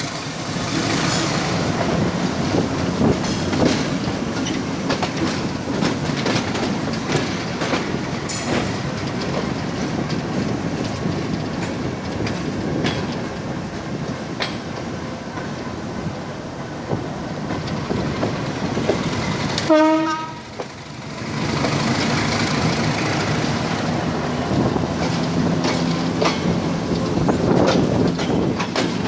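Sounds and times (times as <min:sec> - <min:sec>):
train wheels rumbling on track: 0:00.0 - 0:29.0
clicks over rail joints: 0:00.8 - 0:15.7, 0:20.4 - 0:29.0.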